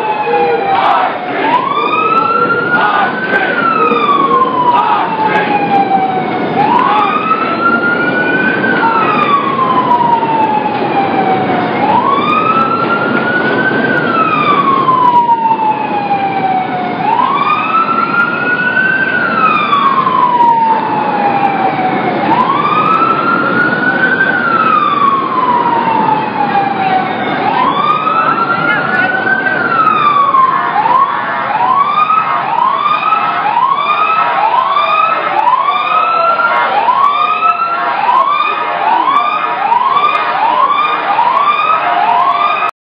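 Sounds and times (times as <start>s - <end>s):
street noise: 0.0s - 42.7s
emergency vehicle siren: 0.0s - 42.8s.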